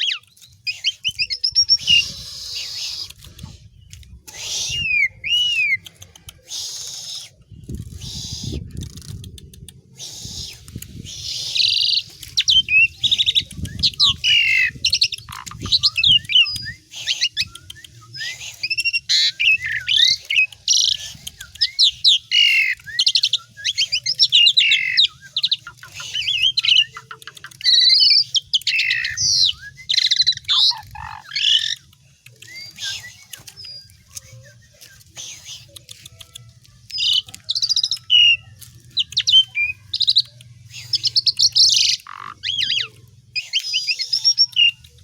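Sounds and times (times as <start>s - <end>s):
starling singing: 0.0s - 3.6s, 4.3s - 8.6s, 10.0s - 45.0s.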